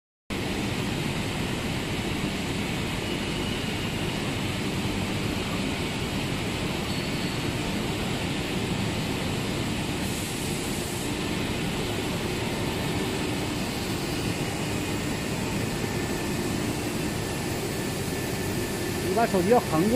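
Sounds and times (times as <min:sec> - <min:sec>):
cable extrusion machine running: 0:00.3 - 0:19.9.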